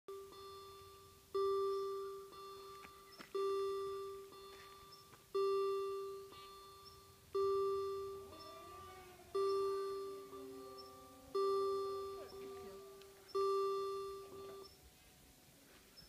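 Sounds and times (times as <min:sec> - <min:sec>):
level crossing bells ringing: 0:00.1 - 0:15.4.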